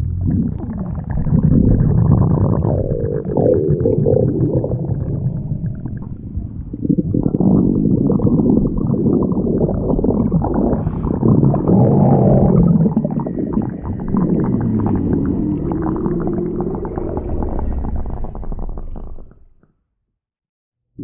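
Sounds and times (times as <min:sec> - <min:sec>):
stomach growling: 0:00.0 - 0:19.8.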